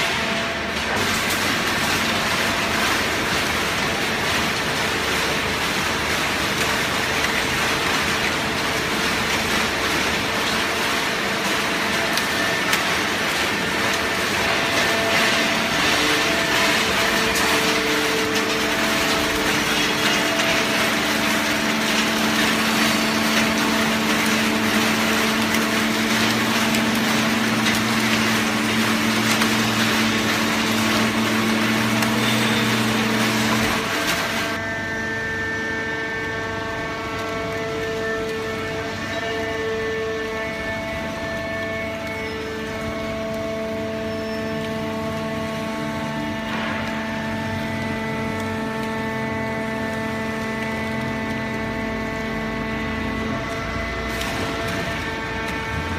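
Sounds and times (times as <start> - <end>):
baler machinery running: 0.0 - 55.9.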